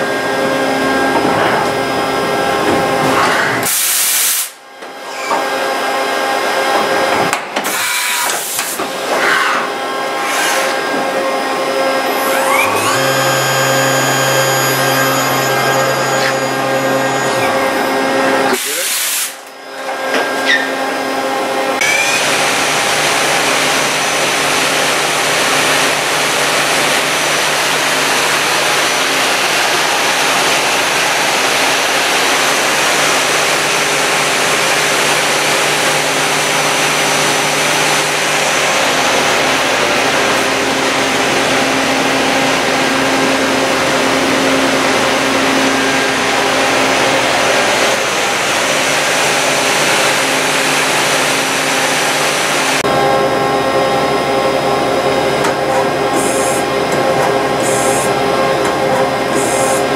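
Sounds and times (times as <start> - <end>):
lathe spindle whirring: 8.0 - 18.6, 19.4 - 59.9.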